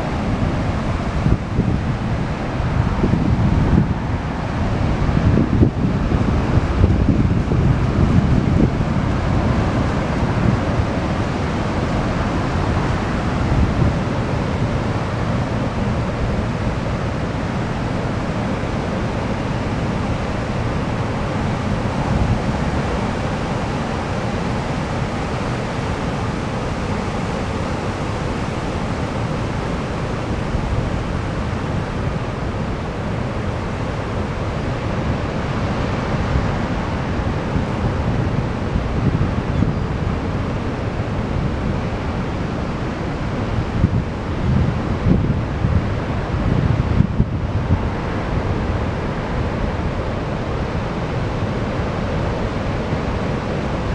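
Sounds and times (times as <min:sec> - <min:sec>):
waves breaking on beach: 0:00.0 - 0:53.9
wind rumbling on microphone: 0:00.0 - 0:53.9.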